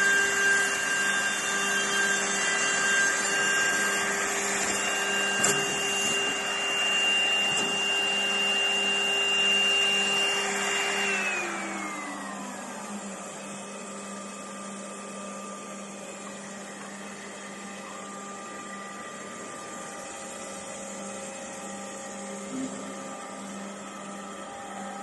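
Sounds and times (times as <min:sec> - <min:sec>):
edge banding machine humming: 0:00.0 - 0:25.0
motor spinning down whine: 0:00.0 - 0:25.0.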